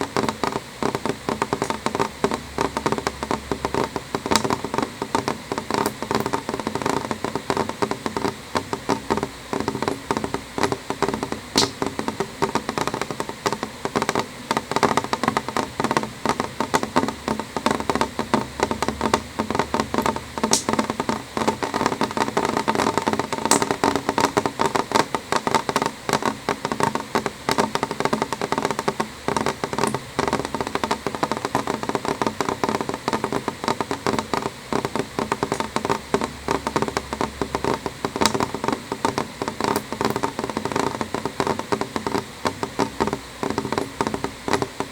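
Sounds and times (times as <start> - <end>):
rain on window glass: 0.0 - 44.9.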